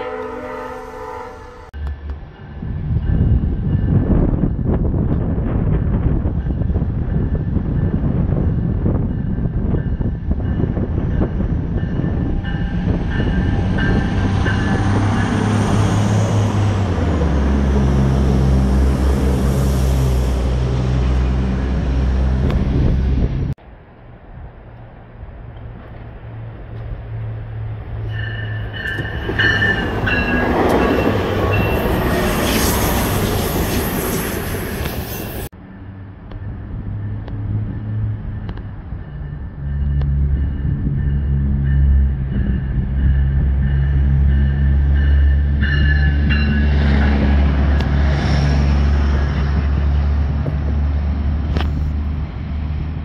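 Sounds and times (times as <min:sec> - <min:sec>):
train engine hum: 0:00.0 - 0:53.0.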